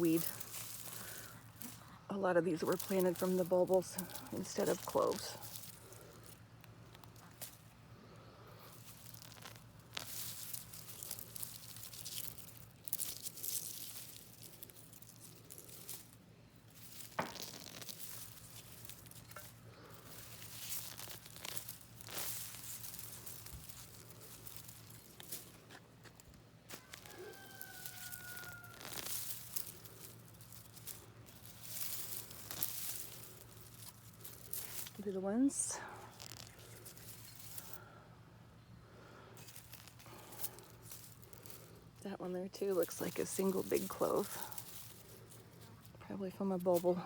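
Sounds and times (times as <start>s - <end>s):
leaves and roots rustling: 0.0s - 47.0s.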